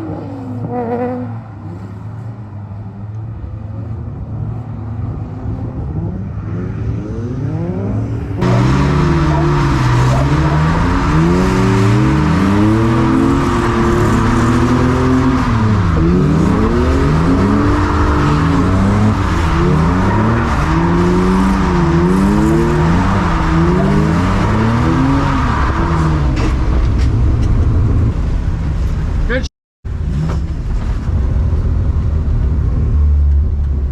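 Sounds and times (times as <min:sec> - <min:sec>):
car engines revving: 0:00.0 - 0:33.9.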